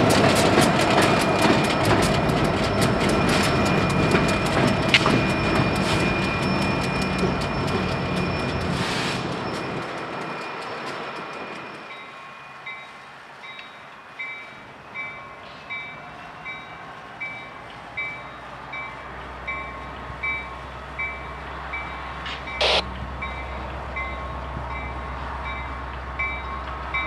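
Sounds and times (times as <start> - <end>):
low diesel train rumble: 0.0 - 27.0
railroad bell dinging: 0.9 - 27.0.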